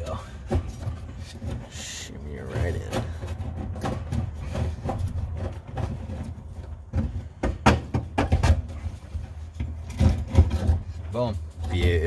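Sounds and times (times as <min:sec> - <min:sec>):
rubbing and scraping: 0:00.0 - 0:12.0.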